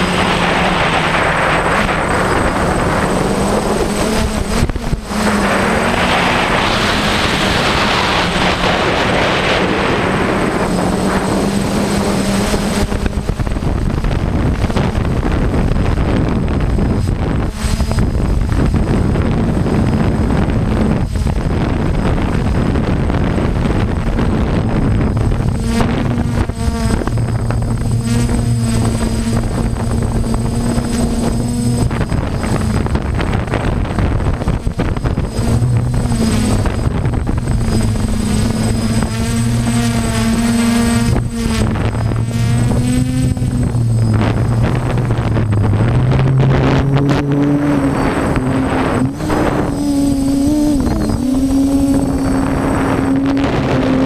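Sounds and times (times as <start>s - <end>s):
drone propellers whirring: 0.0s - 54.0s
wind noise: 0.0s - 54.0s.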